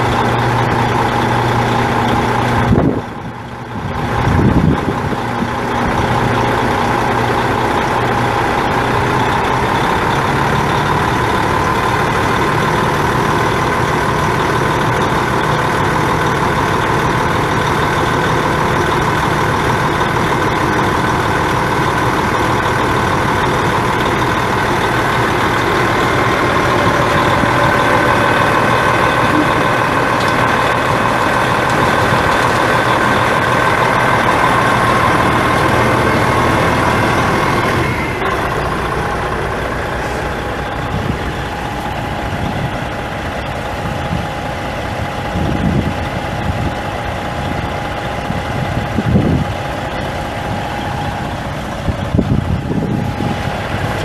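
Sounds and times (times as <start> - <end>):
diesel engine idling: 0.0 - 54.0
steady whine: 0.0 - 54.0.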